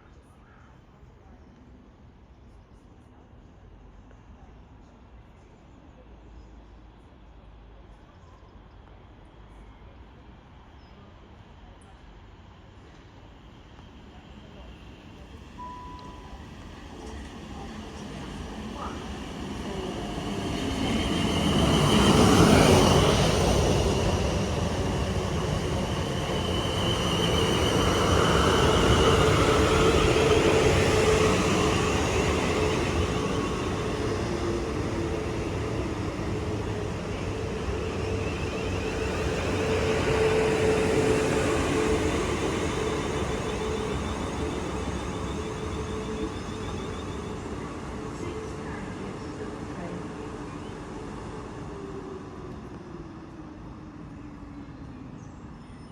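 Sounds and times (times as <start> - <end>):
passenger train running: 5.5 - 55.9.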